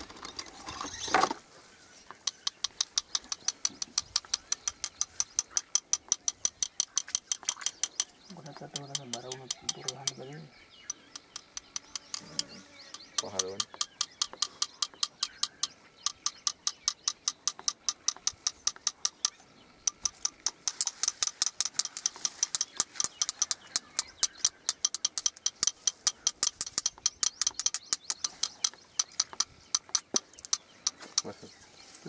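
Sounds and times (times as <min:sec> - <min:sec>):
rapid regular clicking: 0:02.1 - 0:31.4.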